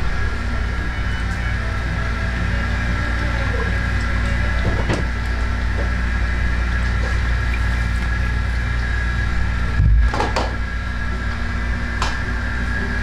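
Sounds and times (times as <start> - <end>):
wok stove burner and fan hum: 0.0 - 13.0.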